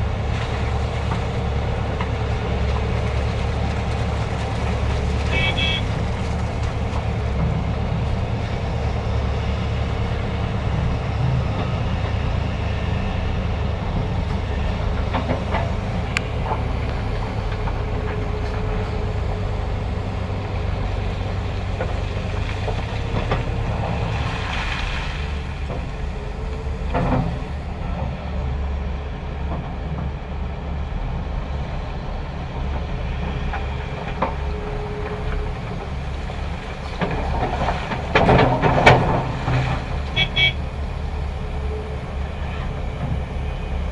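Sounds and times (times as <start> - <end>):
heavy diesel engines rumbling: 0.0 - 43.9.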